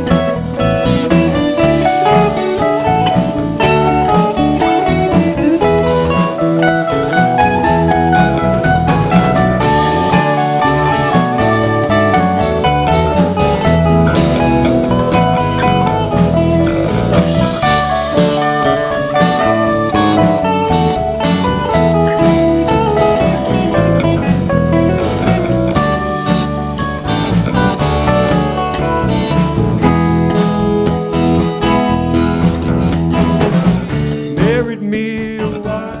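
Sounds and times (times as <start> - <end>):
lead guitar soloing: 0.0 - 36.0
live blues-rock band: 0.0 - 36.0.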